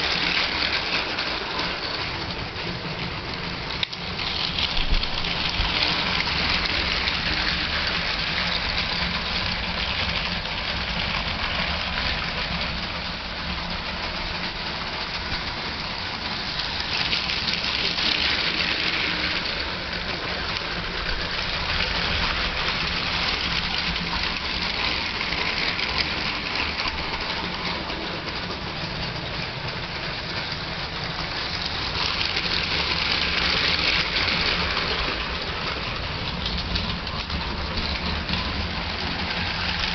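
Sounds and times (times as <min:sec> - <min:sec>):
toy trains whirring and clattering: 0:00.0 - 0:39.9.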